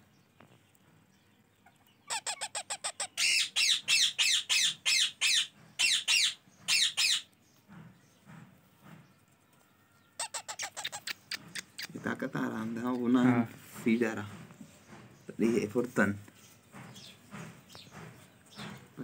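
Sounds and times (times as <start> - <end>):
parakeet chicks begging calls: 1.1 - 8.2, 10.0 - 18.8.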